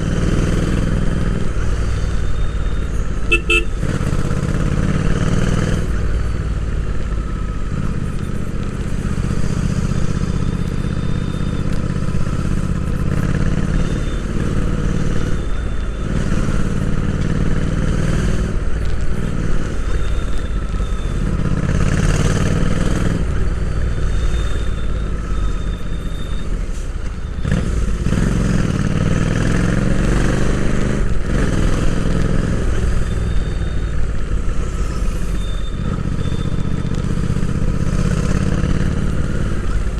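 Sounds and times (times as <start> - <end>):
motorcycle engine revving: 0.0 - 26.2, 27.4 - 39.9.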